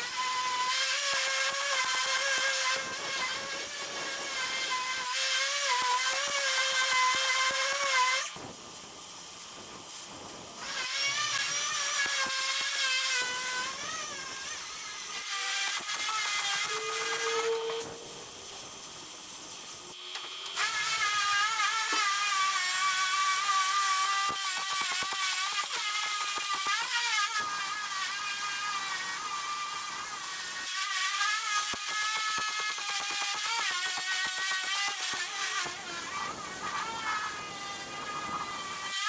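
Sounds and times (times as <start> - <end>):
welder arc crackling and buzzing: 0.0 - 39.0.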